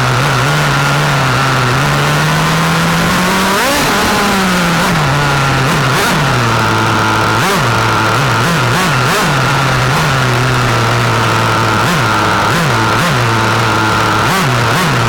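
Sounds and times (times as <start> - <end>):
rc car engine with throttle blips: 0.0 - 15.0.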